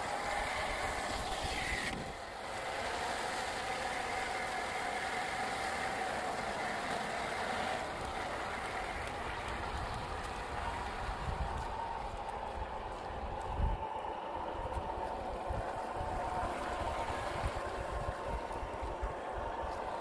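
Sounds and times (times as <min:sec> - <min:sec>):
toy car electric motor whining: 0:00.0 - 0:20.0
water splashing and sloshing: 0:00.0 - 0:20.0.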